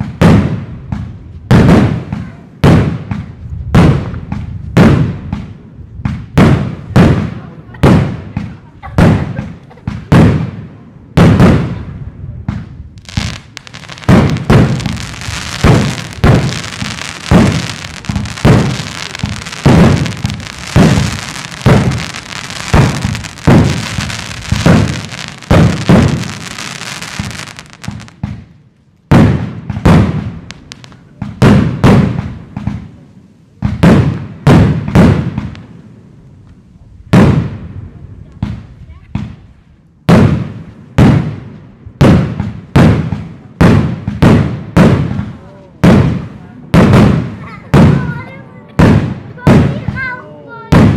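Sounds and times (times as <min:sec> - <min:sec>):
high crackling of fireworks: 0:00.0 - 0:50.9.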